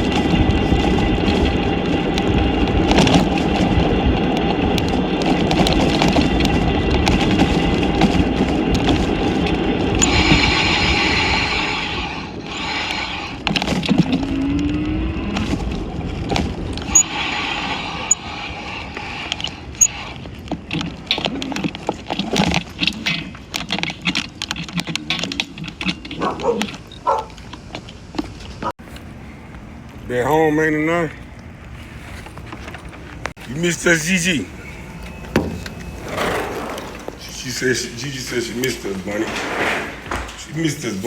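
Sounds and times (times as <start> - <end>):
road and engine rumble: 0.0 - 41.0.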